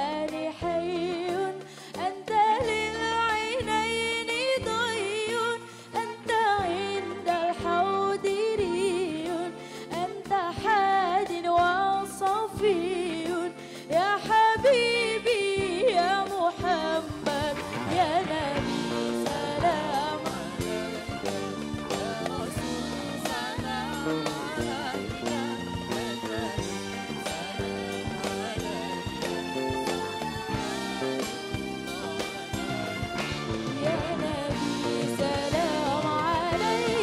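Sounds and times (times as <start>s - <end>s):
woman singing with ornamented runs: 0.0s - 33.0s, 33.6s - 37.0s
live band playing: 0.0s - 37.0s.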